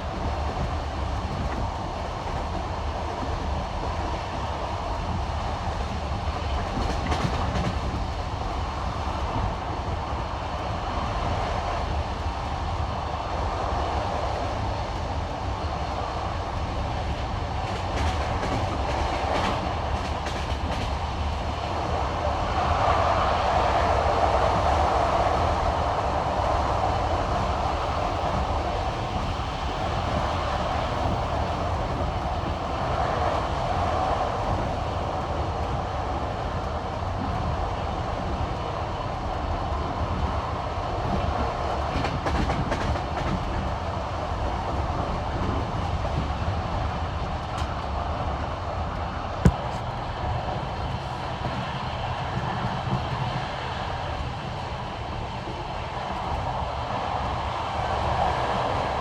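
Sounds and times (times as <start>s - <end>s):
train rolling rumble: 0.0s - 59.0s.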